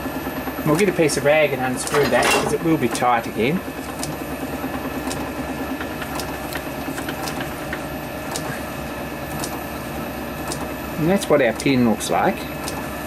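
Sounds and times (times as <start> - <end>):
workshop machinery humming: 0.0 - 13.0.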